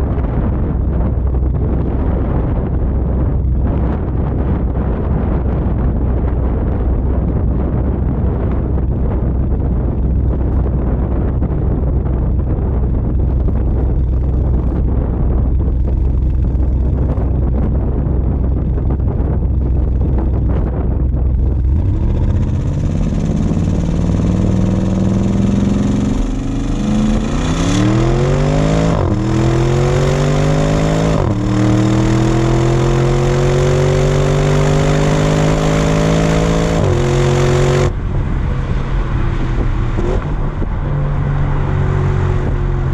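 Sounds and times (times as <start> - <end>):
car exhaust rumbling and accelerating: 0.0 - 42.9.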